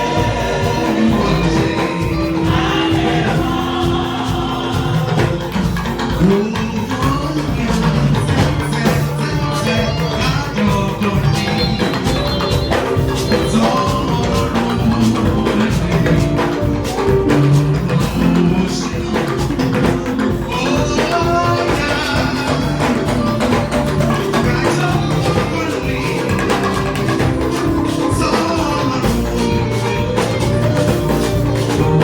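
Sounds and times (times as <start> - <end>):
band music with drums: 0.0 - 32.0.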